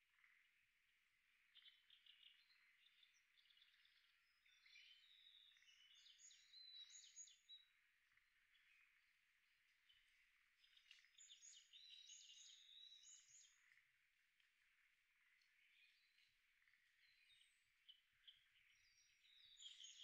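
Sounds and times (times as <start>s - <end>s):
birds chirping and trilling: 0.1s - 20.0s.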